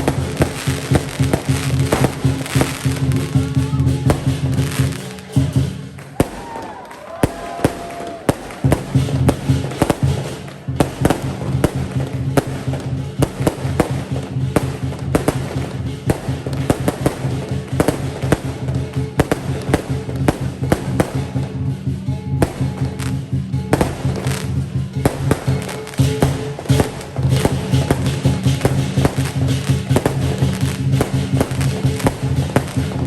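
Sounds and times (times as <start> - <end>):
firecrackers popping: 0.0 - 33.0
lion dance music: 0.0 - 33.0.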